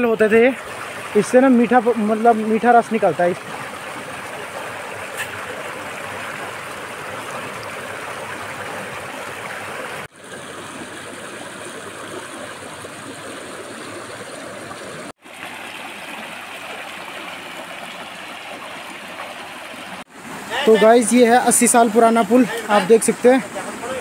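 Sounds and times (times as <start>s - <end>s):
stream rushing over stones: 0.0s - 24.0s.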